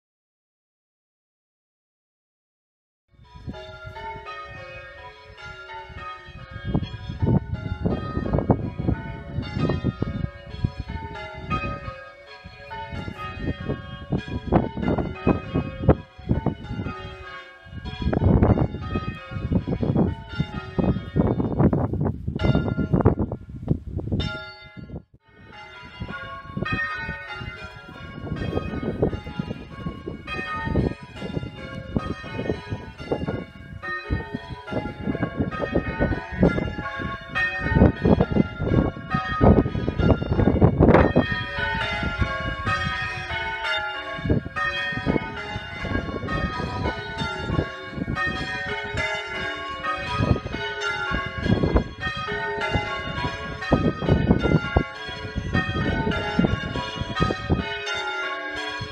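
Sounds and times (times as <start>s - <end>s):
church bells ringing: 3.2s - 23.4s, 24.2s - 58.9s.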